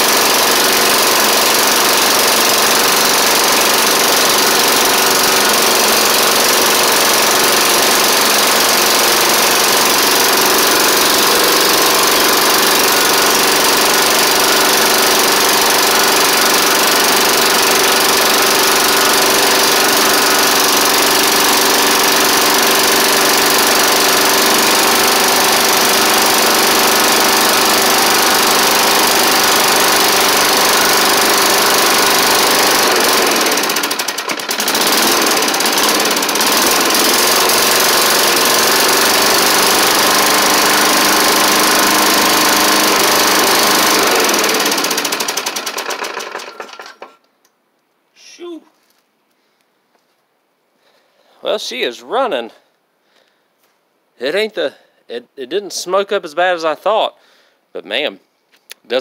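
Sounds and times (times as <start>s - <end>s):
lawn mower engine running: 0.0s - 47.5s.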